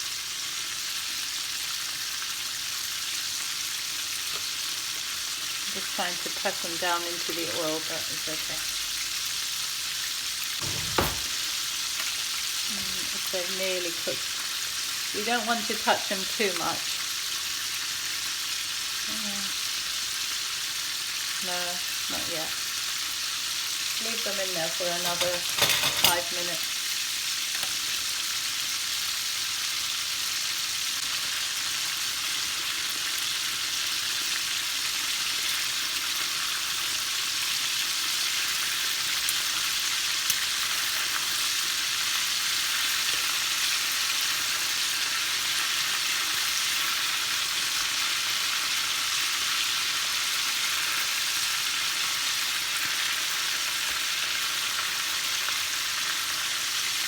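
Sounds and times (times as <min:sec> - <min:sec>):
chicken deep-frying in oil: 0:00.0 - 0:57.0.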